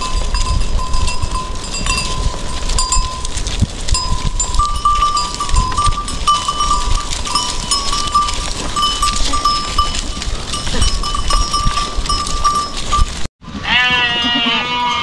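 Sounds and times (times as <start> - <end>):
goat bells clanking: 0.0 - 15.0
hooves shuffling on dirt: 0.0 - 15.0.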